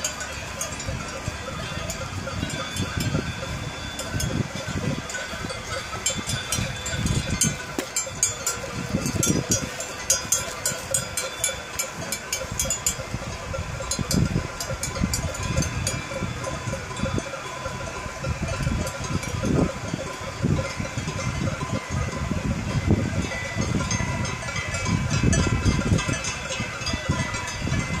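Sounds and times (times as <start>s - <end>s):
cowbells clanging: 0.0s - 28.0s.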